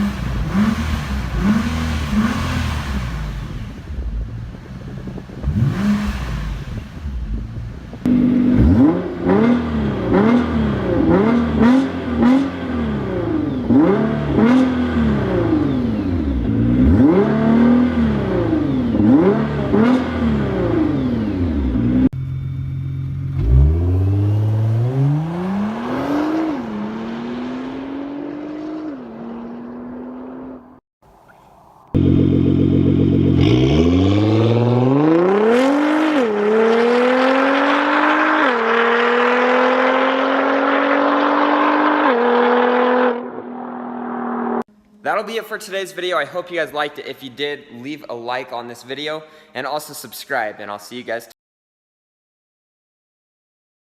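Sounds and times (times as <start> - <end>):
car engine revving: 0.0 - 30.8, 32.0 - 44.7.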